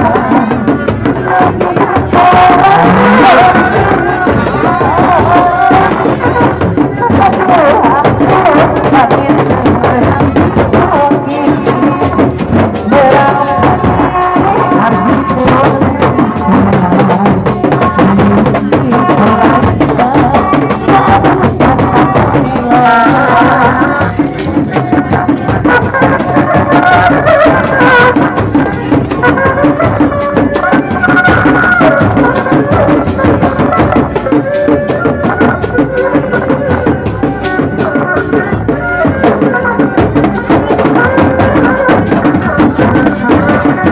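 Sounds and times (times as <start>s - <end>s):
folk music troupe playing: 0.0s - 43.9s
hand drums beating: 0.0s - 43.9s.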